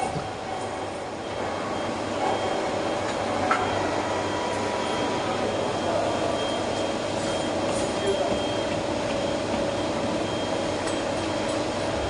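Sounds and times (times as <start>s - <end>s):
heavy machinery running: 0.0s - 12.0s.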